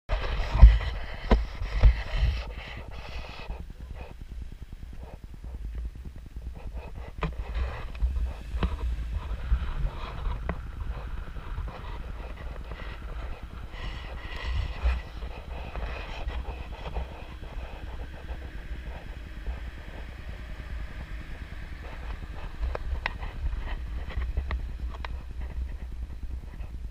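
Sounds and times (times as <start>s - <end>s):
car rumbling along a road: 0.1s - 26.9s
wind on microphone: 0.1s - 26.9s.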